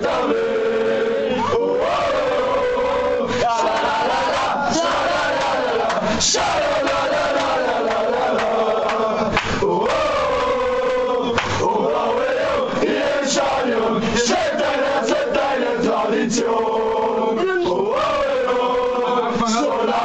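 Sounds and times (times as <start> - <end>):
men shouting: 0.0 - 16.4, 17.2 - 20.0
crowd of men chanting and singing: 0.0 - 20.0.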